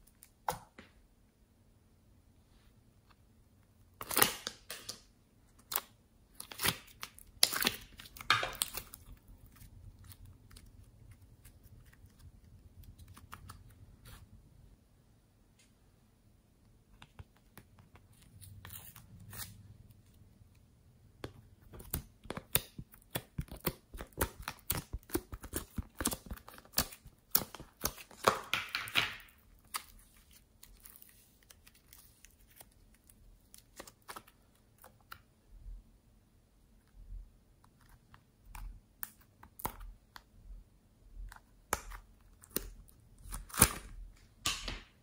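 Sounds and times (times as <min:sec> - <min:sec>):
clay clicks and crackles: 0:03.0 - 0:14.3, 0:16.6 - 0:35.5, 0:36.6 - 0:45.0.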